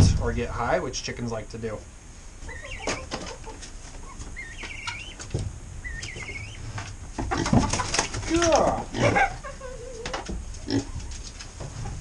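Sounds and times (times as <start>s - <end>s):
chickens warbling calls: 2.1s - 12.0s.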